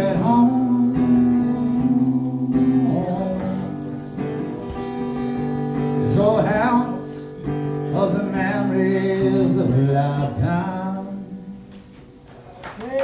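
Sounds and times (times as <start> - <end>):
man singing: 0.0 - 5.2, 5.8 - 11.8
acoustic guitar: 0.0 - 13.0.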